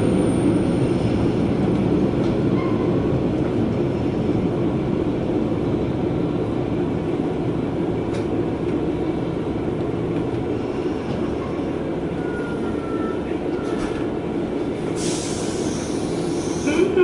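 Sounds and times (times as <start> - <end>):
railcar engine and wheels rumbling: 0.0 - 17.0.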